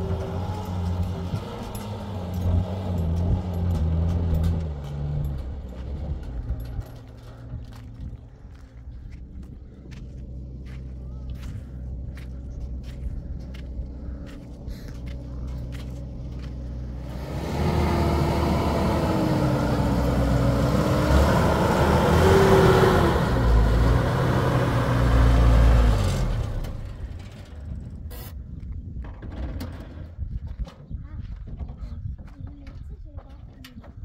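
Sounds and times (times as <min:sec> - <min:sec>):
vehicle engine passing by: 0:00.0 - 0:27.7.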